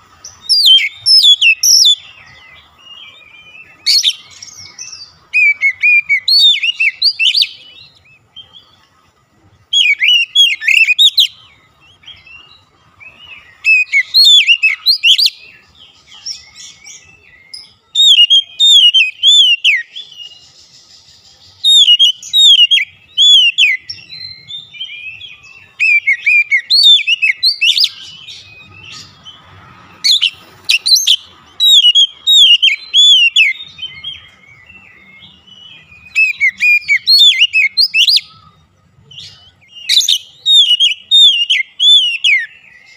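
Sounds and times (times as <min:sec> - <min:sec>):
bird singing whistled phrases: 0:00.2 - 0:08.8, 0:09.6 - 0:29.4, 0:30.0 - 0:42.9.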